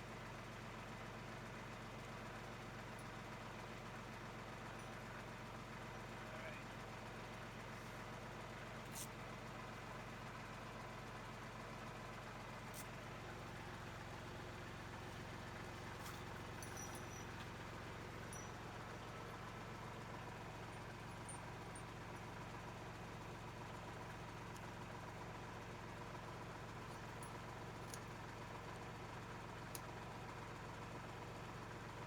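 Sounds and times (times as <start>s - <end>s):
tractor engine idling: 0.9s - 32.0s.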